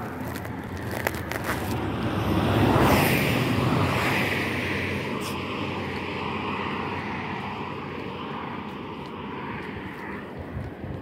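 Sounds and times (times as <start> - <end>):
vehicle passing: 0.0 - 10.8.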